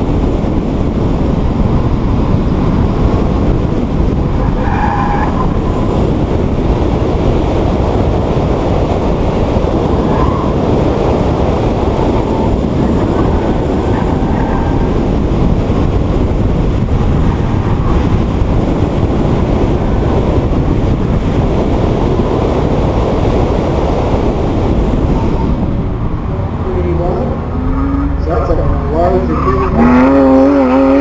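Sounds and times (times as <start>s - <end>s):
car driving noise: 0.0s - 31.0s
wind rumble on microphone: 0.0s - 31.0s.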